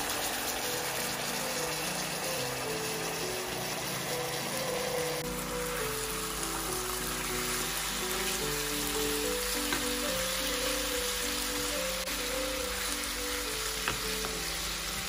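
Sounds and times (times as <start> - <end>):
food sizzling in oil: 0.0 - 15.0
slow melodic background music: 0.0 - 15.0.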